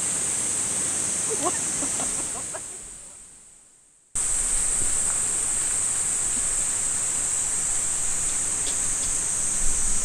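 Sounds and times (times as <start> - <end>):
stream rushing: 0.0 - 3.2, 4.2 - 10.0.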